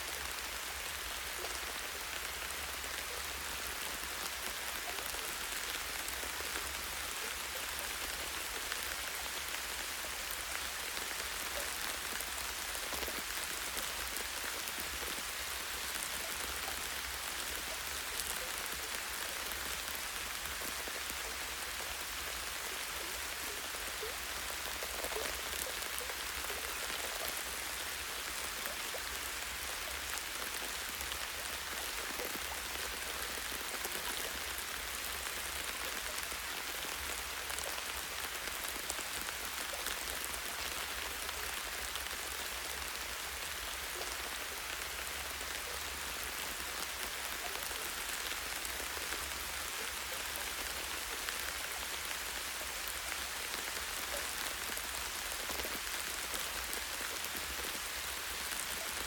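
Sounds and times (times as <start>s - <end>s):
light rain on leaves: 0.0s - 59.0s.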